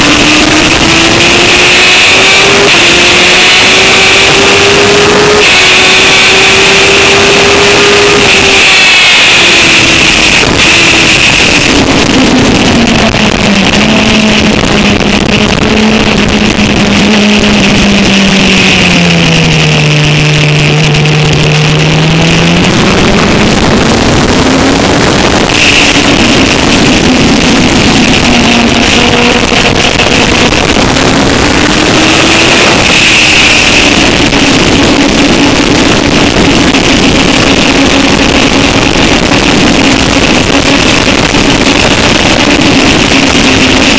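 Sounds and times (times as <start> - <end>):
motorcycle engine: 0.0 - 43.9
wind rush on microphone: 0.0 - 43.9.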